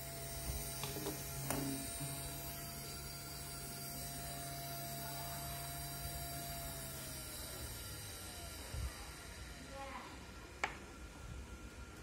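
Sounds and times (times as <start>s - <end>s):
electric motor humming and whining: 0.0s - 12.0s.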